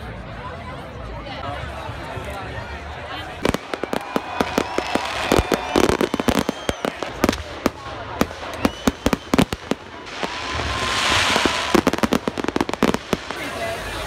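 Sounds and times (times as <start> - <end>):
people's voices: 0.0 - 14.0.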